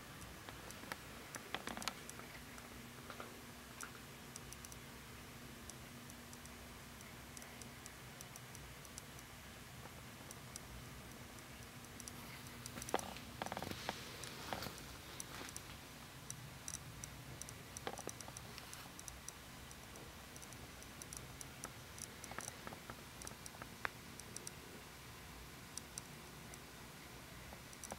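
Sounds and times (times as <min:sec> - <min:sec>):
small clicks and ticks: 0:00.0 - 0:27.9.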